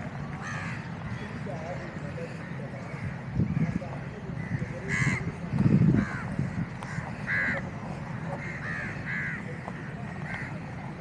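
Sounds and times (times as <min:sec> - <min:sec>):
crows cawing: 0:00.4 - 0:03.8, 0:04.4 - 0:10.7.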